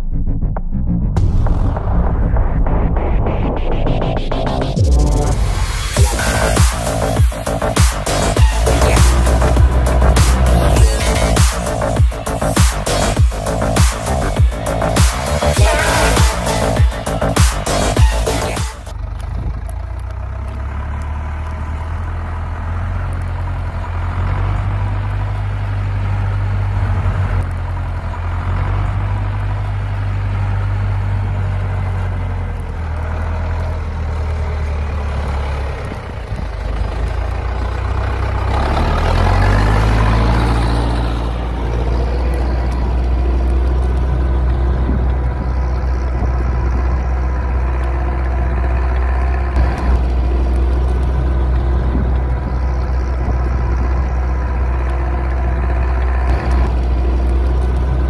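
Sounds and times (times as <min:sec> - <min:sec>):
tractor diesel engine running: 0:00.8 - 0:58.0.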